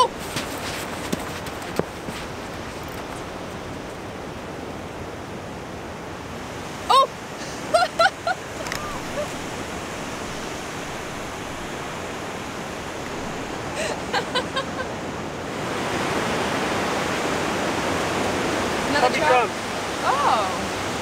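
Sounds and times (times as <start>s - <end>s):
ocean surf: 0.0s - 21.0s
wind: 0.0s - 21.0s.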